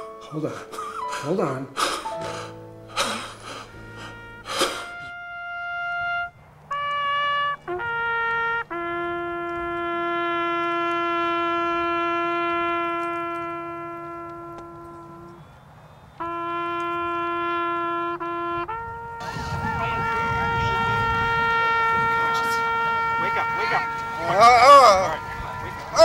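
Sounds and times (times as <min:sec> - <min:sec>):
bugle playing slow call: 0:01.8 - 0:26.0.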